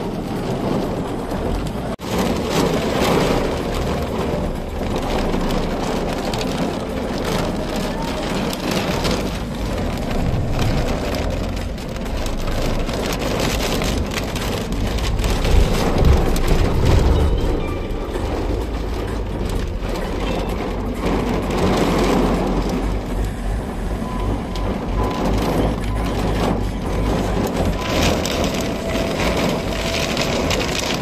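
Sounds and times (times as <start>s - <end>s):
heavy rain pattering on hard surface: 0.0s - 31.0s.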